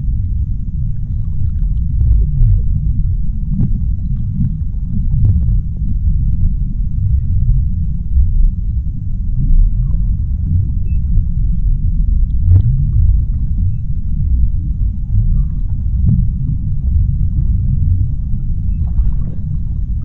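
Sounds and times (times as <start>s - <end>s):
low underwater rumble: 0.0s - 20.0s
faint clicks and ticks: 0.1s - 20.0s.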